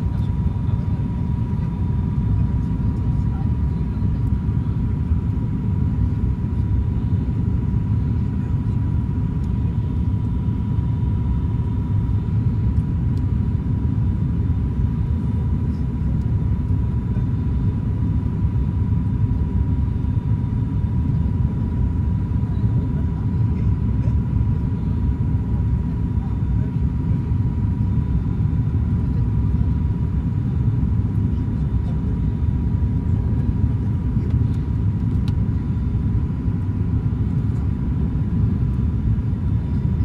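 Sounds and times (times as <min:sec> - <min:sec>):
airliner cabin engine rumble: 0:00.0 - 0:40.0.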